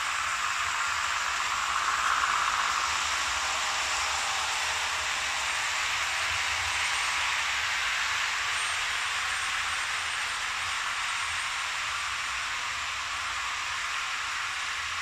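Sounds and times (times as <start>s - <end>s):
faint high whine: 0.0s - 15.0s
model train wheels on rails: 0.0s - 15.0s.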